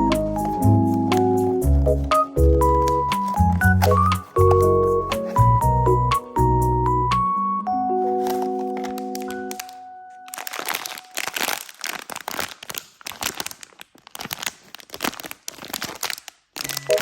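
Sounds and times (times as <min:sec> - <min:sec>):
plastic wrapper crinkling: 0:00.0 - 0:05.7, 0:08.0 - 0:17.0.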